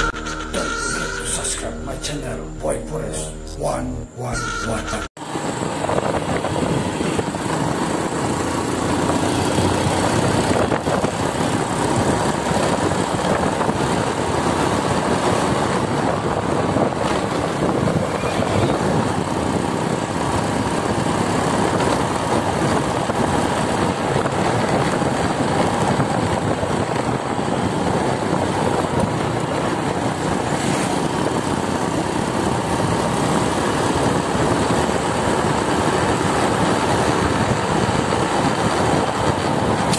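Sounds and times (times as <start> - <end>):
road noise: 0.0 - 39.9
wind rushing on microphone: 5.3 - 39.9.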